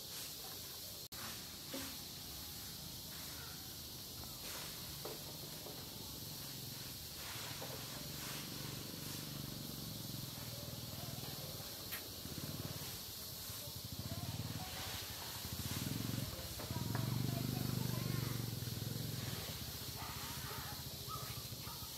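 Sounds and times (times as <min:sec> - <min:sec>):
outdoor ambience hiss: 0:00.0 - 0:21.9.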